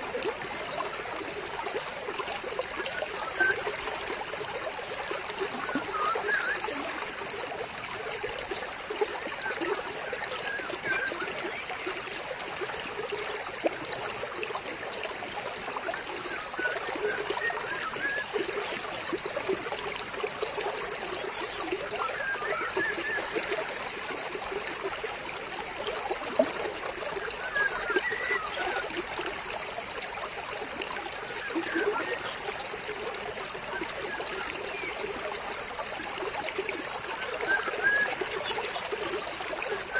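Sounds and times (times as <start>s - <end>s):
stream water babbling over rocks: 0.0s - 39.9s.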